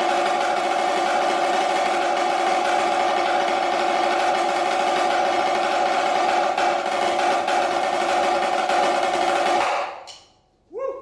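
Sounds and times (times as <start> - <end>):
snare drum roll: 0.0 - 10.0.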